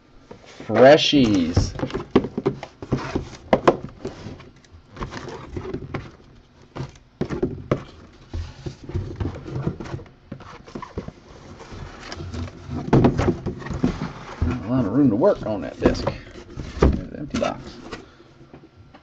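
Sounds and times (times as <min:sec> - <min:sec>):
cardboard boxes knocking on desk: 0:01.2 - 0:14.6, 0:15.3 - 0:17.7.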